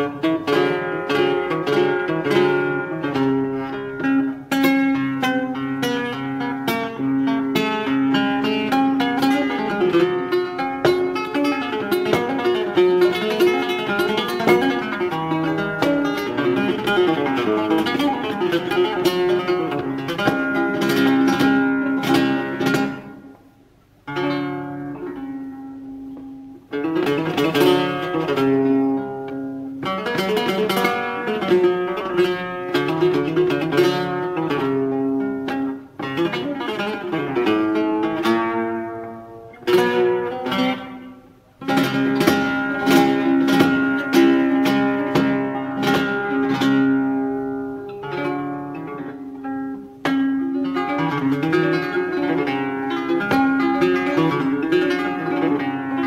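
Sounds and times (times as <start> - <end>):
solo flamenco guitar: 0.0 - 56.0.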